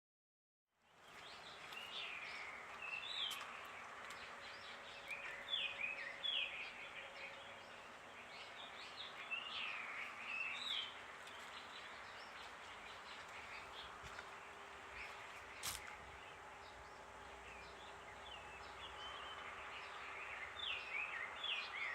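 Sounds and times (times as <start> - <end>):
birds chirping: 0.8 - 21.9.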